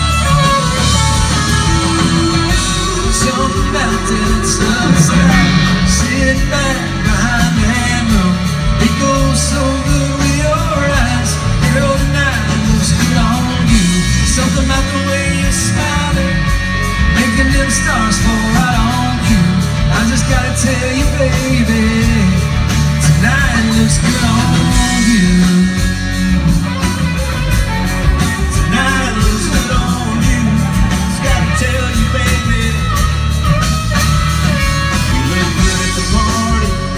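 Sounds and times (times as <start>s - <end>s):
person singing: 0.0s - 27.3s, 27.9s - 36.9s
drums: 0.0s - 36.9s
electric bass: 0.0s - 36.9s.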